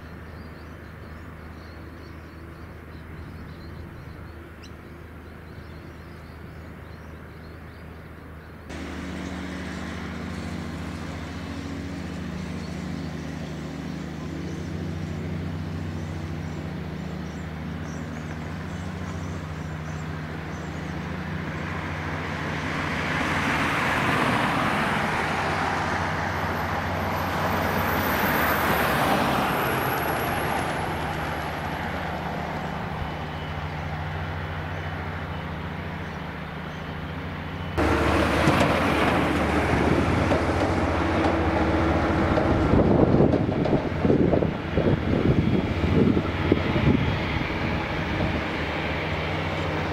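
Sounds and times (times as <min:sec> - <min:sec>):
jet engines roaring: 0:08.7 - 0:49.9.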